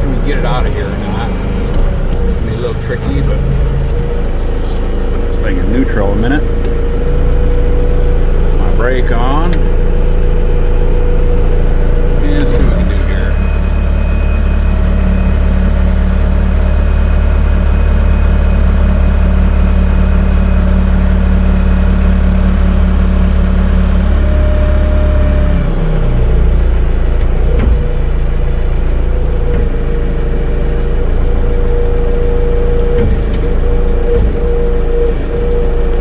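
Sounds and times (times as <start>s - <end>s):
steady whine: 0.0s - 36.0s
vehicle engine running: 0.0s - 36.0s.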